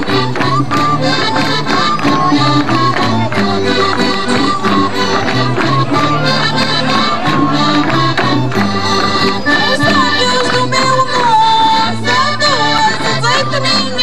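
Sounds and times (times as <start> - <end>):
accordion folk music: 0.0 - 14.0.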